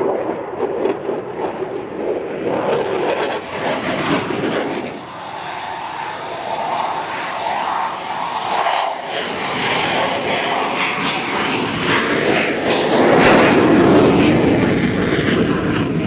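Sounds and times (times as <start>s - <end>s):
aircraft engine roar: 0.0s - 16.0s
engine whine: 0.0s - 16.0s.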